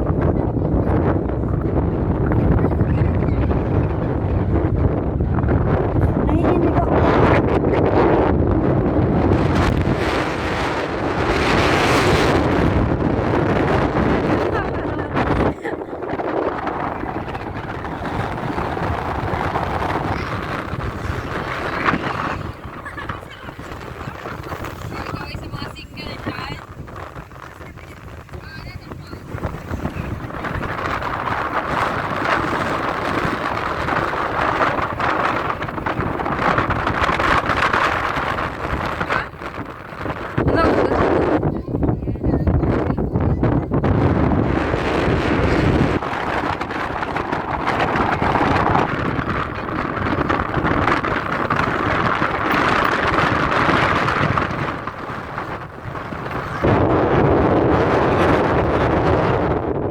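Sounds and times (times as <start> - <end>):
low rumble: 0.0 - 59.9
wind buffeting microphone: 0.0 - 59.9.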